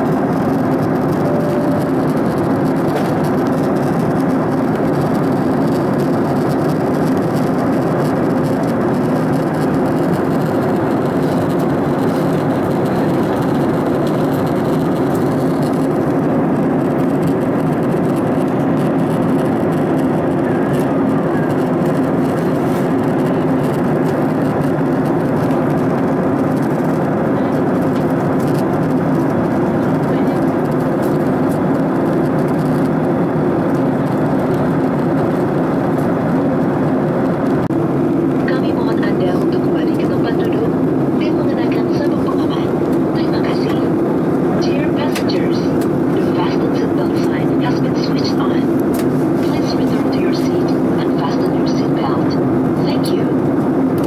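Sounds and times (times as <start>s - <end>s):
jet airliner cabin drone: 0.0s - 54.0s.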